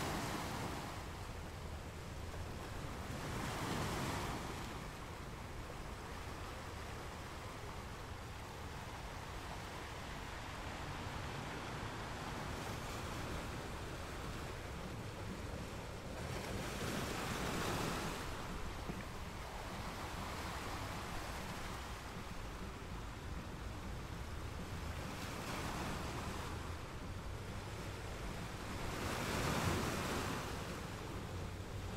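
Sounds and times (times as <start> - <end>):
ocean waves rushing: 0.0 - 31.8.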